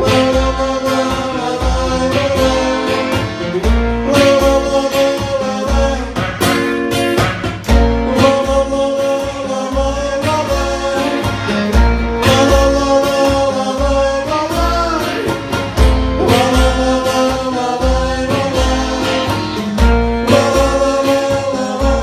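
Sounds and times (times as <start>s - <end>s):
person singing: 0.0s - 6.5s, 8.0s - 15.4s, 16.1s - 22.0s
guitar: 0.0s - 22.0s.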